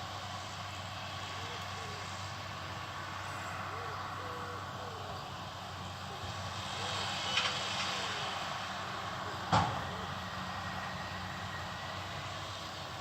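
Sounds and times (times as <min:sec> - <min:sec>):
farm machinery engines droning: 0:00.0 - 0:13.0.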